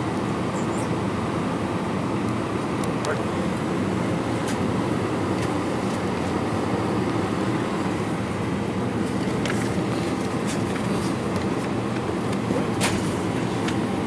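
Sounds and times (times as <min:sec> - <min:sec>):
airliner cabin hum: 0:00.0 - 0:14.0.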